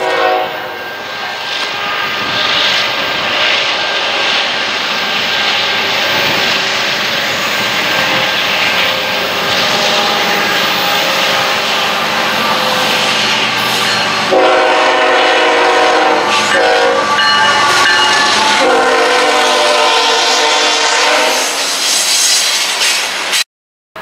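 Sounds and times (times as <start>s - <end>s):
diesel locomotive engine drone: 0.0s - 23.4s.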